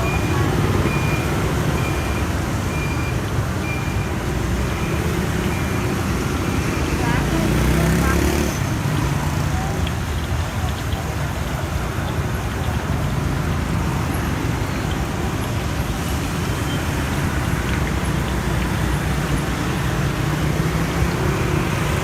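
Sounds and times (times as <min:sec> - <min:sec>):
road traffic rumbling: 0:00.0 - 0:22.0.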